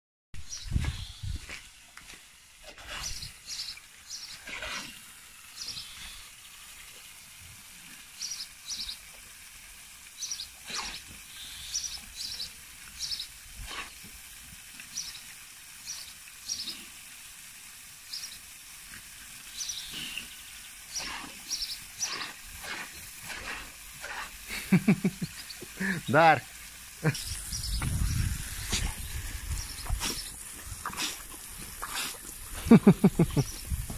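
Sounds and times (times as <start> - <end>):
hose nozzle spraying water: 0.8 - 33.9.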